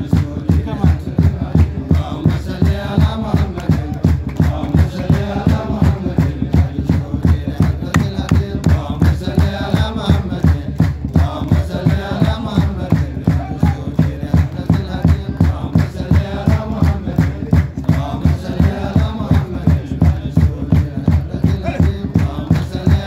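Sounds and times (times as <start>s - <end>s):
steady percussive beat: 0.0s - 23.0s
voices chanting a melody: 0.0s - 23.0s.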